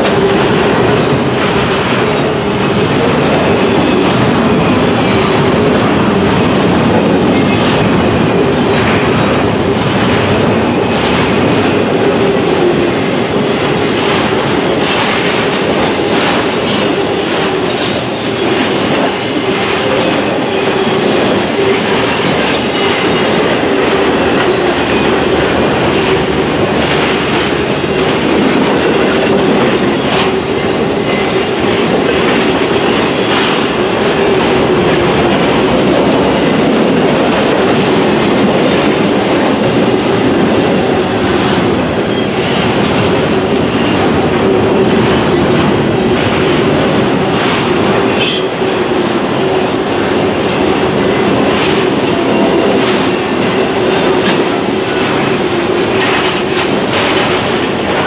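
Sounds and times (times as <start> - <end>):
freight train wheels rattling: 0.0 - 58.0.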